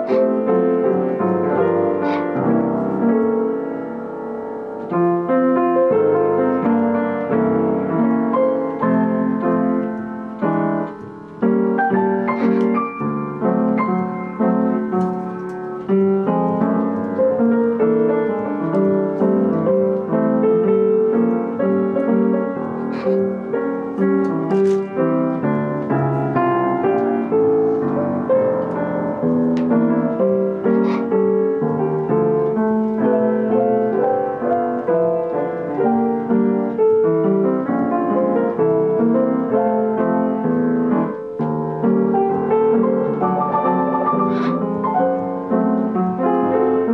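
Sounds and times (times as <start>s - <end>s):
piano playing: 0.0s - 46.9s.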